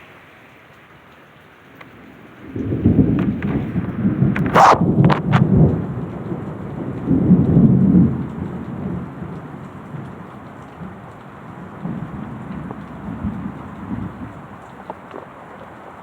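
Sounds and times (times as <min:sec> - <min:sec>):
steady rainfall: 0:00.0 - 0:16.0
thunder rumbling: 0:01.8 - 0:16.0.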